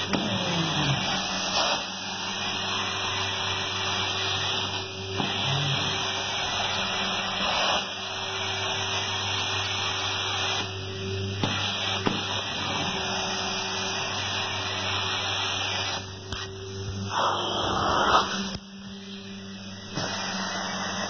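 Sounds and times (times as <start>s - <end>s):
carpet extractor suction and spray: 0.0s - 21.0s.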